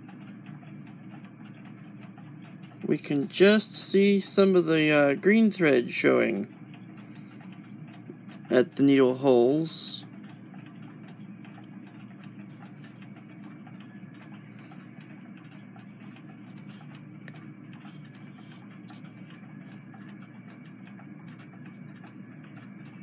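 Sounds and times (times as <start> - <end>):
irregular ticks and clicks: 0.0 - 23.0.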